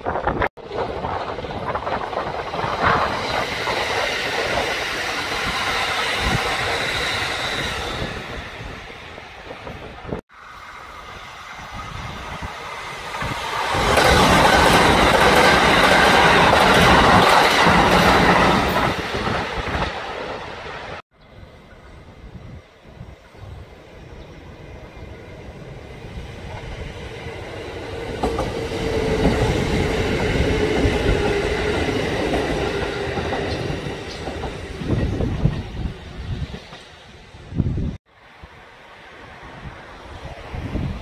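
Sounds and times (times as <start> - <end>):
electric train passing at speed: 0.0 - 41.0.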